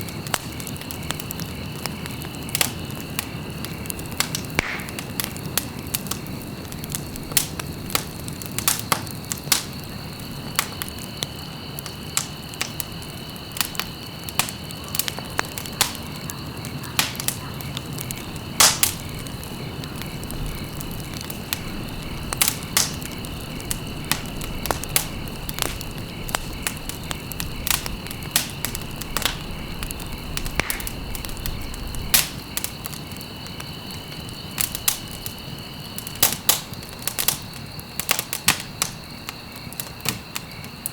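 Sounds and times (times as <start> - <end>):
campfire crackling and popping: 0.0 - 40.9
insects trilling: 0.0 - 40.9.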